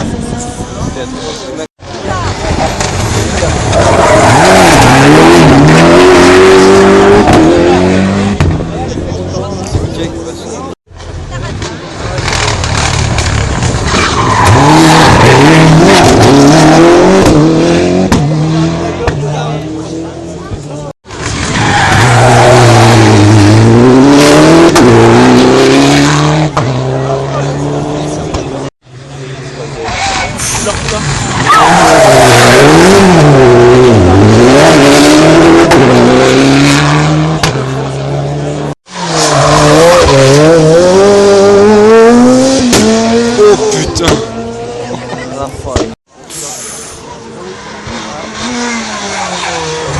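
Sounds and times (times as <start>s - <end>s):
rally car engine accelerating: 0.4s - 49.9s.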